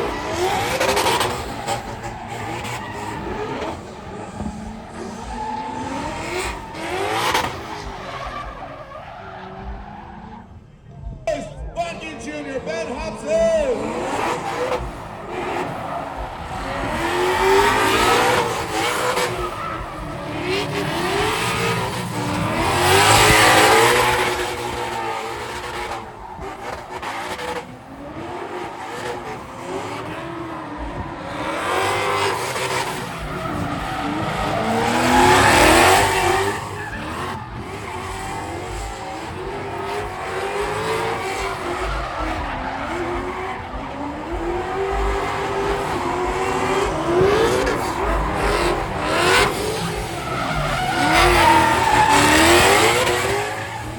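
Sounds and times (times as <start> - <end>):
tyres squealing: 0.0 - 10.2, 11.3 - 53.9
car engines revving: 0.0 - 53.9.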